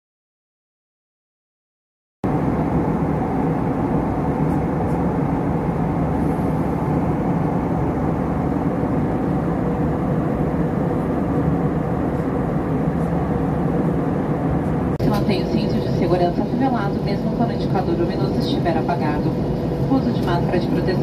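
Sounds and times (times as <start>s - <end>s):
airliner cabin engine rumble: 2.2s - 21.0s.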